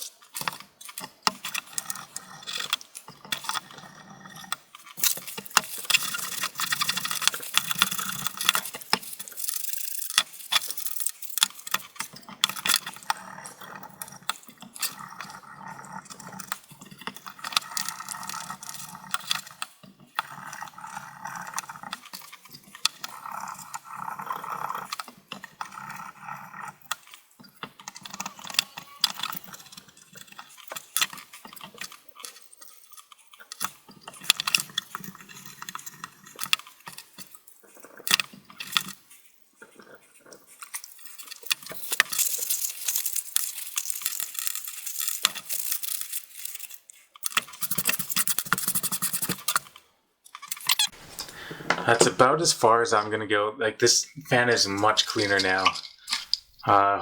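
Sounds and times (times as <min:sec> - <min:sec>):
tool scraping plastic fan: 0:00.0 - 0:49.8.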